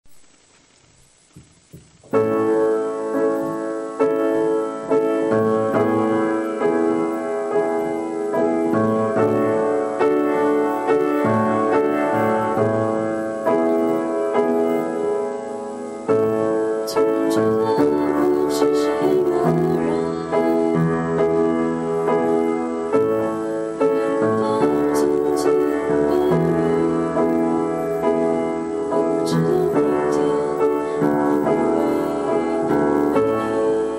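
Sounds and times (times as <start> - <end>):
slow piano chords and melody: 0.0 - 33.9.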